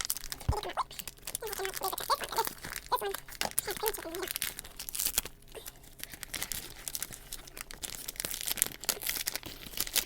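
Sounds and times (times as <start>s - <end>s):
wrapper crinkling and rustling: 0.0s - 10.0s.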